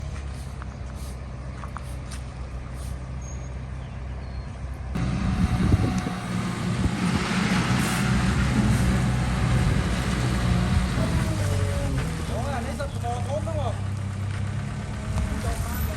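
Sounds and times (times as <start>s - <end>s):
bulldozer diesel engine running: 0.0s - 15.9s.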